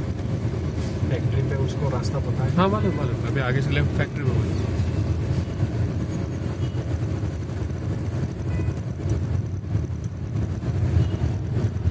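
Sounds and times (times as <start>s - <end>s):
diesel engine rumble: 0.0s - 11.9s.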